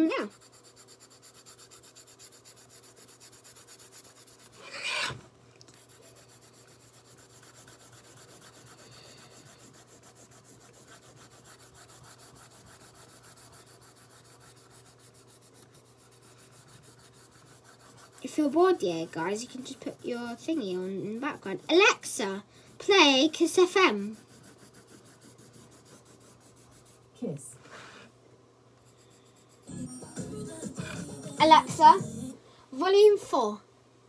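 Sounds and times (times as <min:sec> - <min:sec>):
colouring strokes scratching paper: 0:00.0 - 0:28.1, 0:28.9 - 0:29.7.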